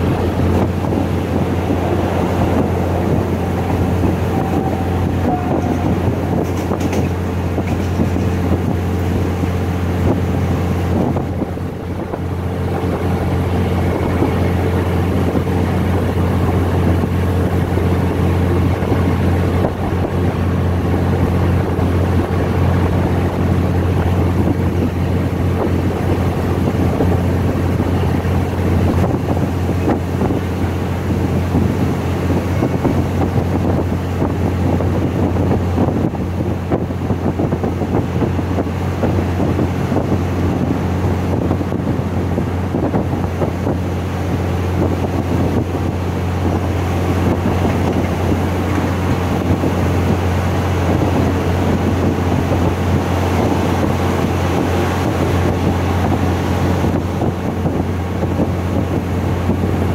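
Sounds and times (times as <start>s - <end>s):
train engine drone: 0.0s - 59.9s
wind rushing at a window: 0.0s - 59.9s.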